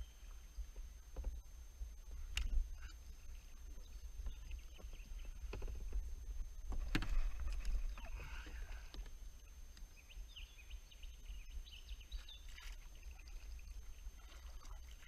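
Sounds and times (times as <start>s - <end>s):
water moving around kayak: 0.0s - 10.3s, 11.2s - 15.0s.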